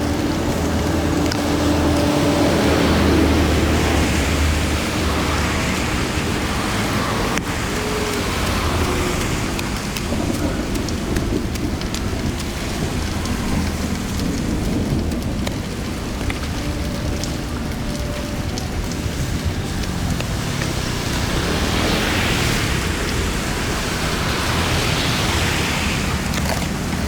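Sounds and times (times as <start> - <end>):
faint ticks and patters: 0.0 - 27.0
low rumble: 0.0 - 27.0
water rushing: 0.0 - 27.0.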